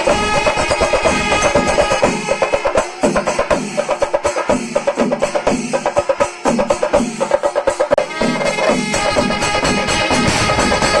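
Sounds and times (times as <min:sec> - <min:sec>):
fast loud drumming ensemble: 0:00.0 - 0:11.0.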